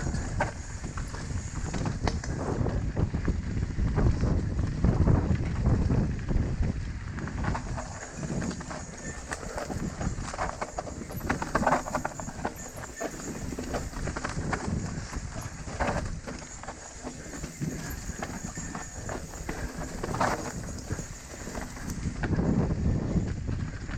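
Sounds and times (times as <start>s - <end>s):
mountain bike rattling: 0.0s - 23.9s
wind rumbling on microphone: 0.0s - 23.9s.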